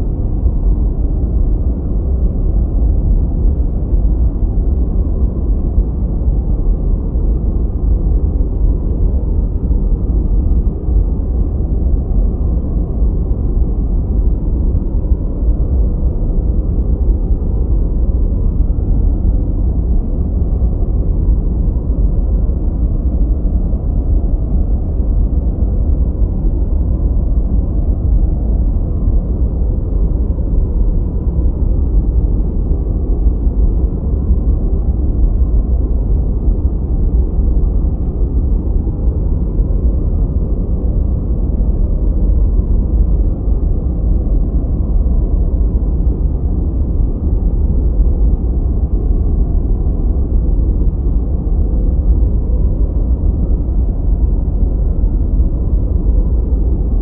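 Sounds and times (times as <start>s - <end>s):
deep muffled rushing noise: 0.0s - 57.0s.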